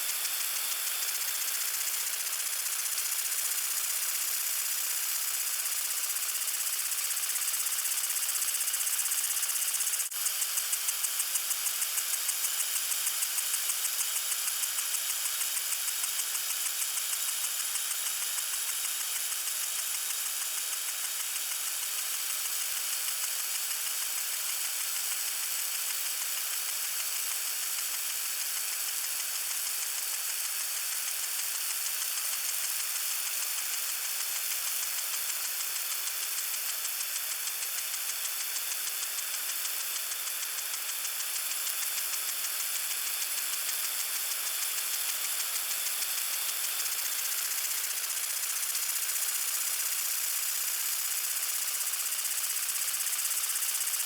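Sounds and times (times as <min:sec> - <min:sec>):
lawn sprinkler spraying: 0:00.0 - 0:54.0.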